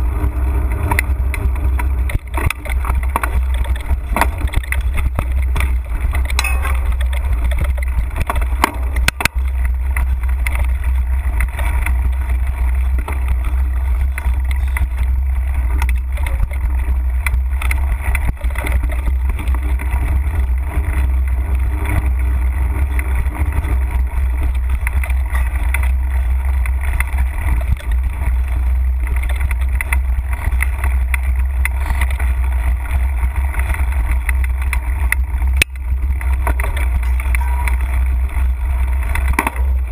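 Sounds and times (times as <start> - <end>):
bike clicks and rattles: 0.0 - 39.9
wind rumbling on microphone: 0.0 - 39.9.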